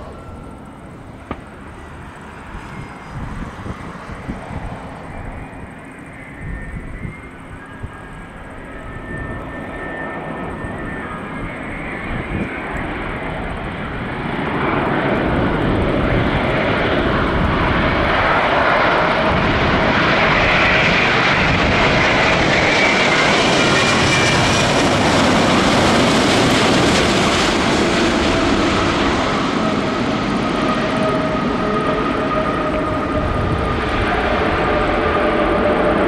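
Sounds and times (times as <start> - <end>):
jet engines roaring overhead: 0.0 - 36.0.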